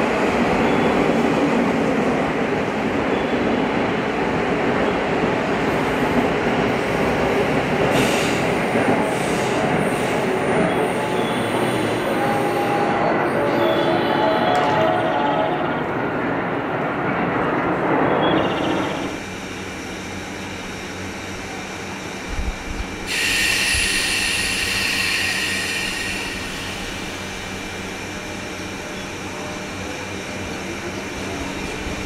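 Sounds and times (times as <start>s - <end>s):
train rushing: 0.0s - 32.0s.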